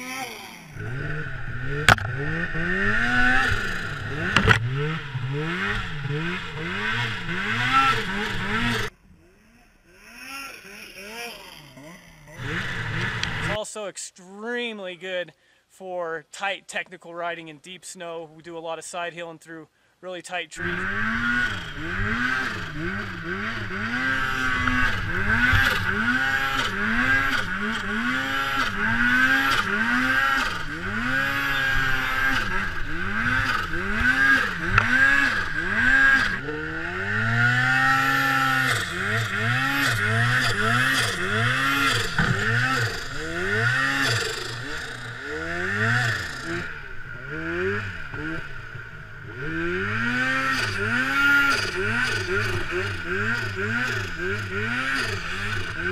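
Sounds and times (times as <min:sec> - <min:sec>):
snowmobile engine revving: 0:00.0 - 0:15.0, 0:20.5 - 0:55.9.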